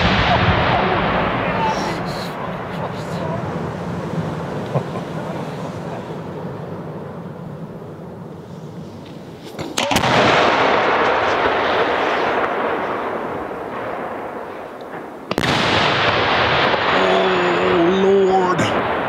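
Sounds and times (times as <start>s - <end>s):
firework bang: 0.0s - 6.3s, 9.4s - 19.0s
fireworks rushing noise: 0.0s - 19.0s.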